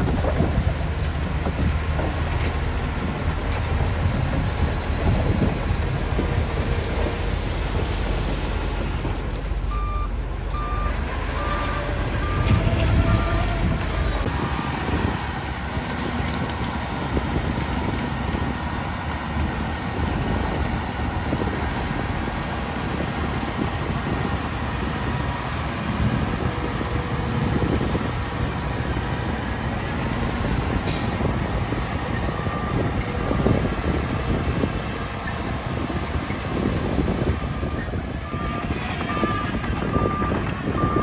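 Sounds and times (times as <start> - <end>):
diesel engines rumbling: 0.0 - 41.0.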